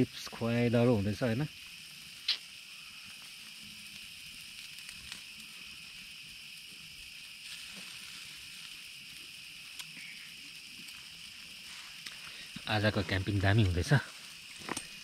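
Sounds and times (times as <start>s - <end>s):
night insects trilling: 0.0s - 15.0s
faint ticks: 1.5s - 12.8s, 13.4s - 15.0s.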